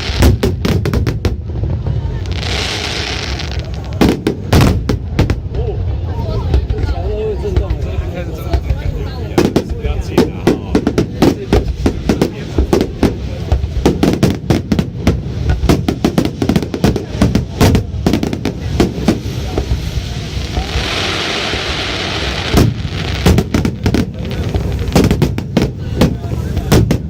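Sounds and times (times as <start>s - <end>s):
fireworks banging: 0.0s - 27.0s
fireworks hissing: 0.0s - 27.0s.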